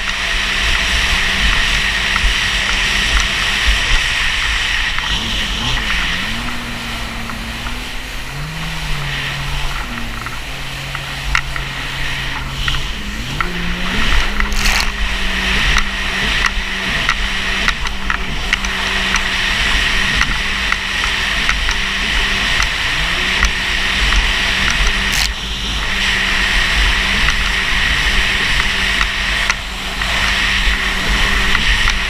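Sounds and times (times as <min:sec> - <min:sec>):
jet ski engine: 0:00.0 - 0:32.0
wind and water rushing: 0:00.0 - 0:32.0.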